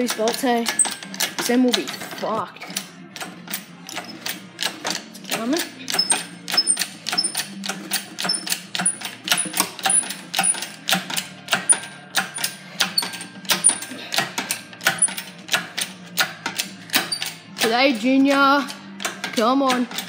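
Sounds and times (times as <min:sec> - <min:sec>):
engine hoist pump clicking: 0:00.0 - 0:20.0.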